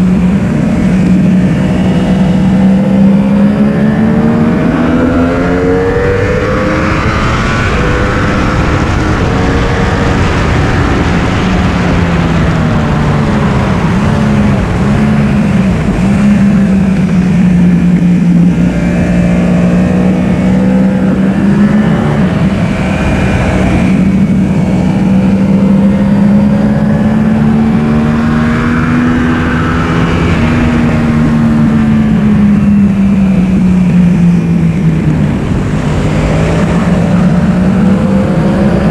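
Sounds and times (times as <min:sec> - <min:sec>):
motorcycle engine revving: 0:00.0 - 0:38.9
wind rush on microphone: 0:00.0 - 0:38.9.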